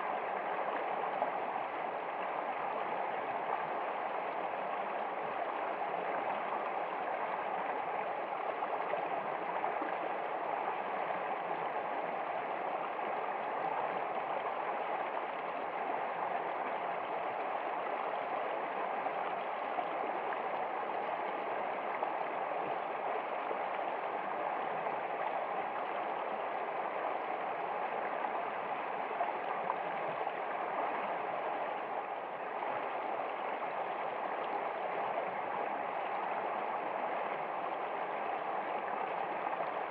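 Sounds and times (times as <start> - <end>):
water flowing and gurgling: 0.0 - 39.9.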